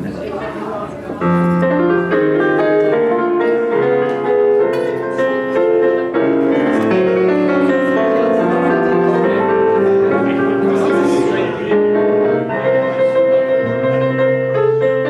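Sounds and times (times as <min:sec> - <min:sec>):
piano keyboard chords: 0:00.6 - 0:15.0.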